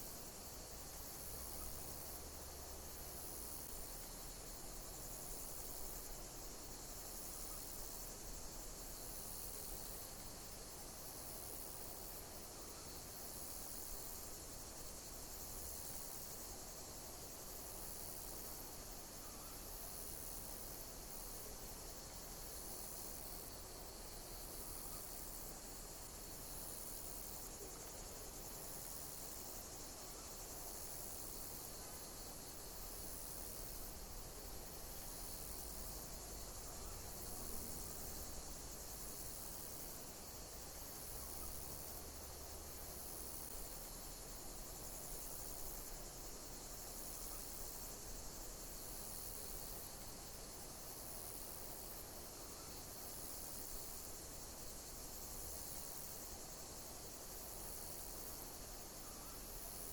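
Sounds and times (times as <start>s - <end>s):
high-pitched insect chirp: 0.0s - 59.9s
insects chirping: 0.0s - 59.9s.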